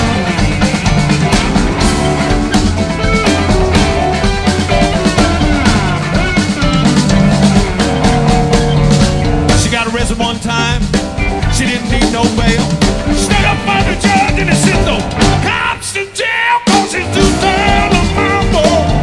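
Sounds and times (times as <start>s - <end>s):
drum kit: 0.0s - 19.0s
rock band playing live: 0.0s - 19.0s.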